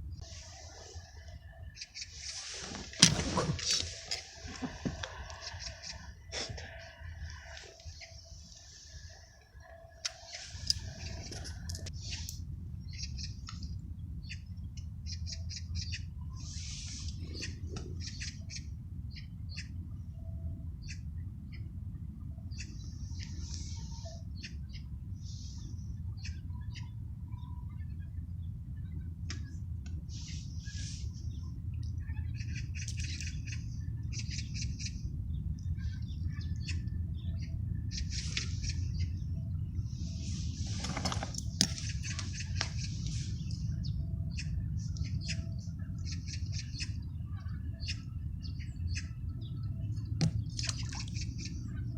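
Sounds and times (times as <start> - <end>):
small birds chirping: 0.1 - 20.1, 22.5 - 51.9.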